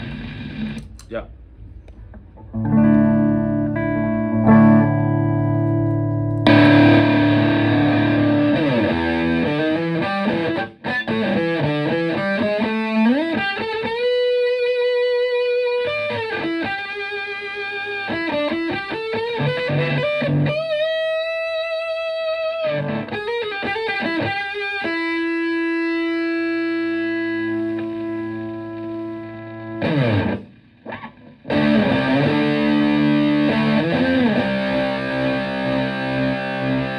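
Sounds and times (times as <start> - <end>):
fuzz electric guitar: 0.0 - 36.9.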